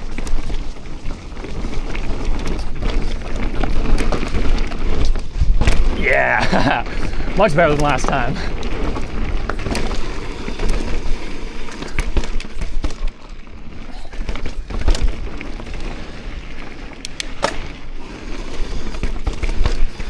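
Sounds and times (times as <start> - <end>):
bike clattering: 0.0 - 6.0, 8.4 - 20.0
bike tyres rolling on dirt: 0.0 - 20.0.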